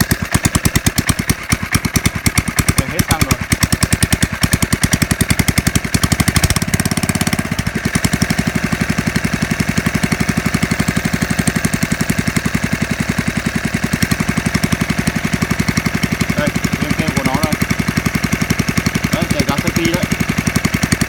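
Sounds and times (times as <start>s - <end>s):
portable generator running: 0.0s - 21.0s.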